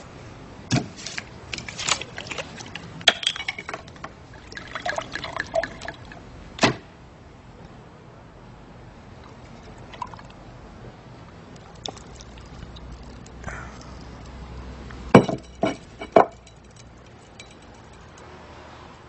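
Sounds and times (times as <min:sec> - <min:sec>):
low steady hiss: 0:00.0 - 0:19.0.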